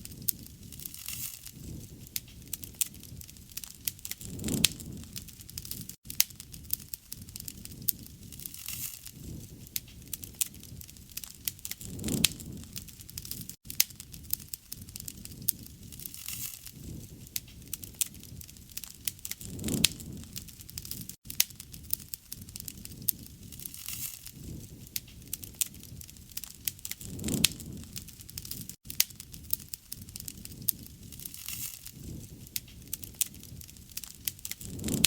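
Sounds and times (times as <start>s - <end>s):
campfire crackles and pops: 0.0s - 35.0s
low rush of flame: 0.0s - 35.0s.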